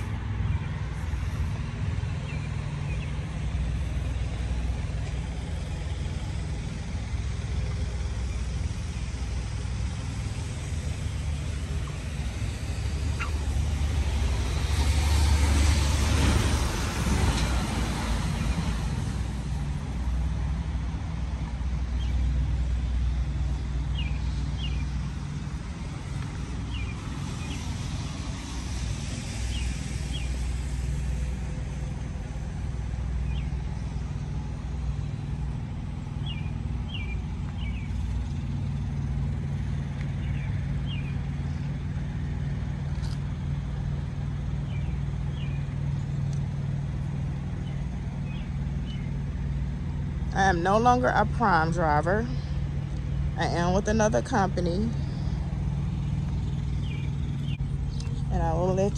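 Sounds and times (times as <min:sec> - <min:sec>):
truck diesel engine running: 0:00.0 - 0:58.9.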